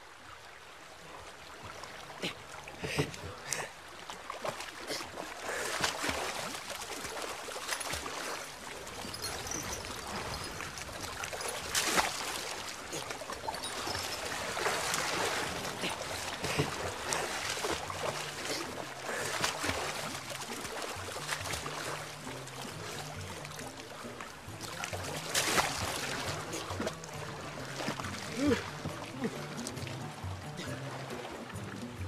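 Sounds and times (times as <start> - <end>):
water splashing and sloshing: 0.0 - 32.0.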